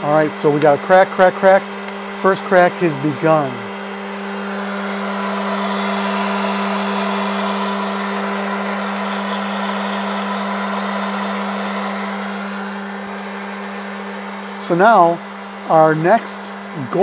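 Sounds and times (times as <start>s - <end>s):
popper fan motor humming: 0.0s - 17.0s
rush of hot air: 3.0s - 17.0s.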